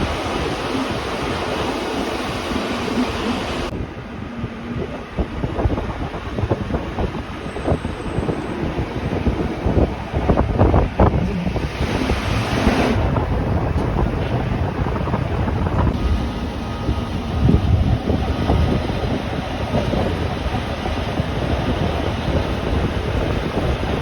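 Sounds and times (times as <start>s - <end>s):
train wheels rumbling on rails: 0.0s - 24.0s
wind noise: 0.0s - 24.0s.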